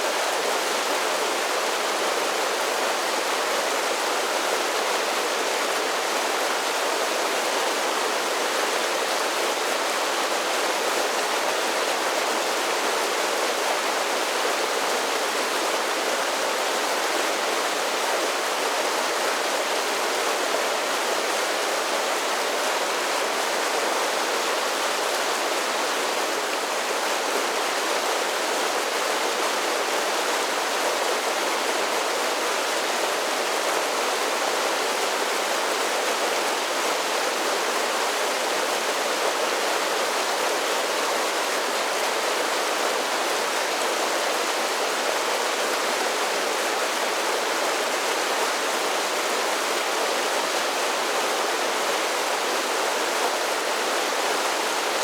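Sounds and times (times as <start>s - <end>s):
creek cascading over waterfalls: 0.0s - 55.0s.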